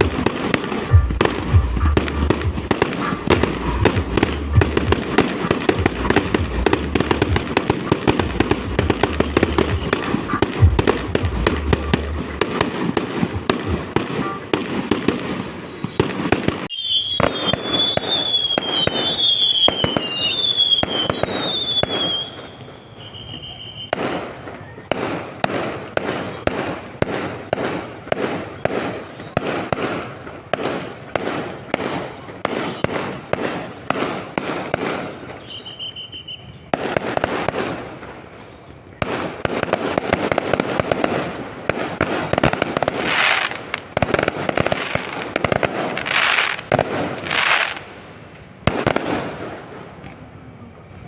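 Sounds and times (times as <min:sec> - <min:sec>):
fireworks banging: 0:00.0 - 0:51.0
fireworks crackling: 0:00.0 - 0:51.0.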